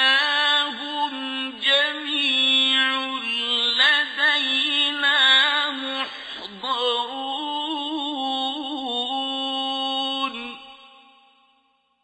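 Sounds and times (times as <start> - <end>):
man chanting melodically: 0.0 - 11.2.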